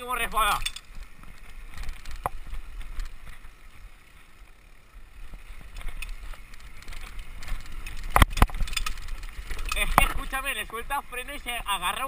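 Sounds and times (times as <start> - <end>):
bike rattling and clicking: 0.0 - 12.0
bike tyres on rocky trail: 0.0 - 12.0.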